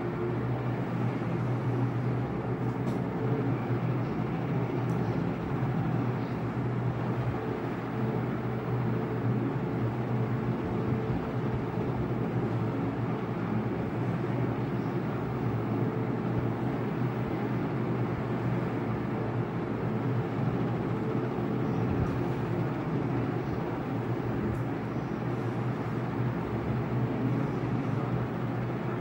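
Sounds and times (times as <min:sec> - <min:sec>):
faint hum: 0:00.0 - 0:29.0.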